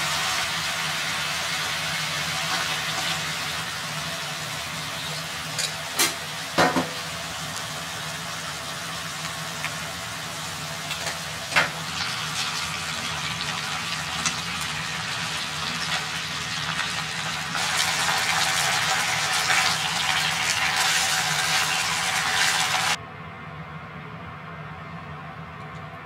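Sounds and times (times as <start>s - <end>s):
food sizzling in frying pan: 0.0s - 23.0s.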